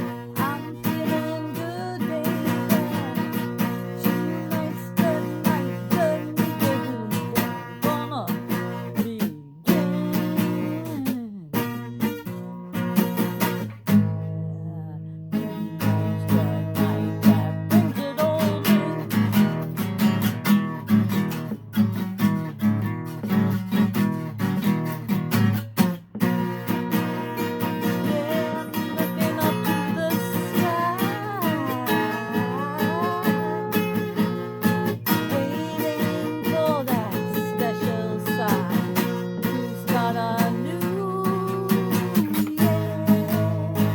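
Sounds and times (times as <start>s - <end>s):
man singing: 0.0s - 19.6s, 27.4s - 43.9s
acoustic guitar strumming: 0.0s - 43.9s.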